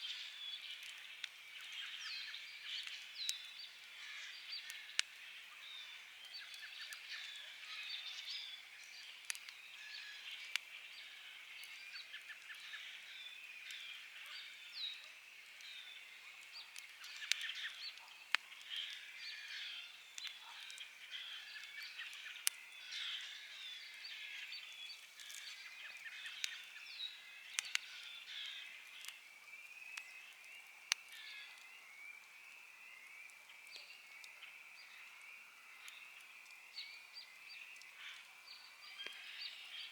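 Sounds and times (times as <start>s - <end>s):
birds calling and singing: 0.0s - 39.9s
campfire pops: 0.7s - 1.9s, 2.6s - 23.0s, 23.8s - 34.4s, 35.3s - 36.7s.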